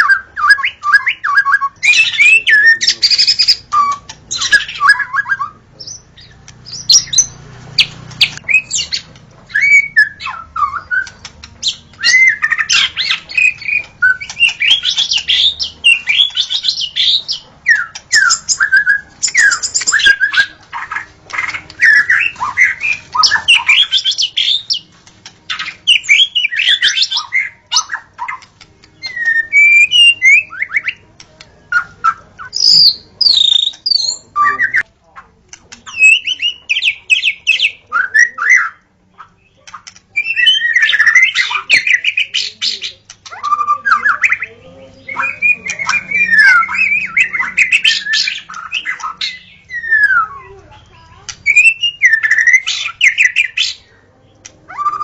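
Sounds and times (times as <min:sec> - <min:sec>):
bird singing whistled phrases: 0:00.0 - 0:07.4, 0:08.2 - 0:24.8, 0:25.5 - 0:31.0, 0:31.7 - 0:34.8, 0:35.9 - 0:50.7, 0:51.4 - 0:53.9, 0:54.7 - 0:55.0.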